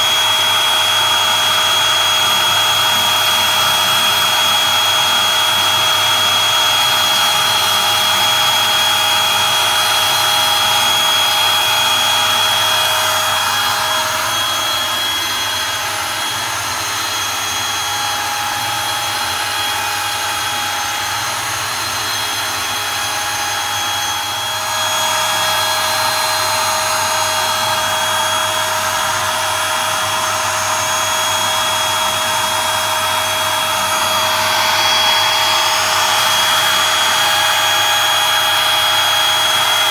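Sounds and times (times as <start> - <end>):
router cutting plywood whine: 0.0 - 39.9.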